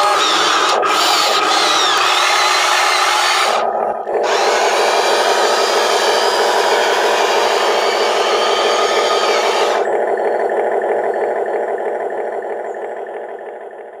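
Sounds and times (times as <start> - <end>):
electric motors and gears whirring: 0.0 - 14.0.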